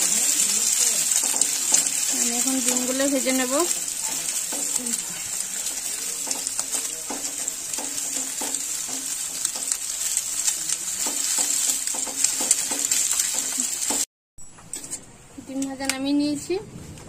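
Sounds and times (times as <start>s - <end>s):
spatula scraping a pan: 0.0s - 14.0s
eggs sizzling in oil: 0.0s - 14.1s.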